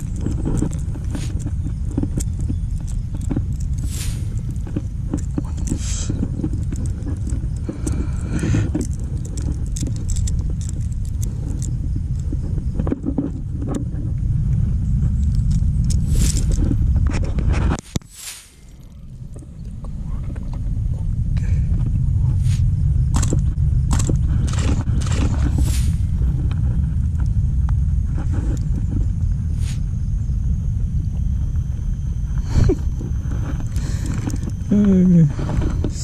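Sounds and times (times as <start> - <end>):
wind buffeting microphone: 0.0 - 17.9, 19.0 - 36.0
handling clicks and rustles: 0.0 - 21.1, 23.1 - 29.8, 32.4 - 36.0.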